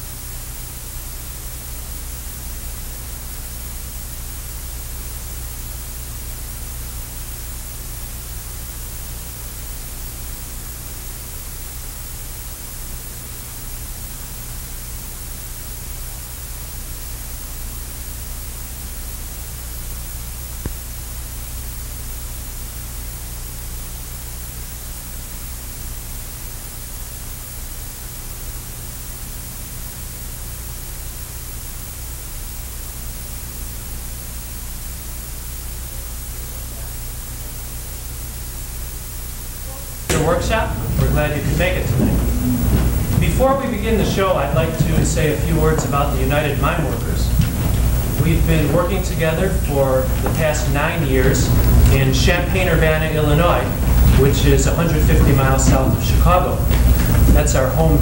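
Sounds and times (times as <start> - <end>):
low electrical hum: 0.0 - 58.0
tape hiss: 0.0 - 58.0.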